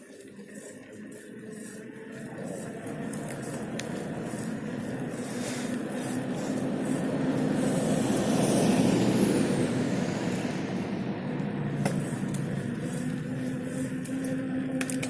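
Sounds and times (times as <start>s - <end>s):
steady low hum: 0.0s - 15.0s
vehicle passing by: 2.6s - 14.7s.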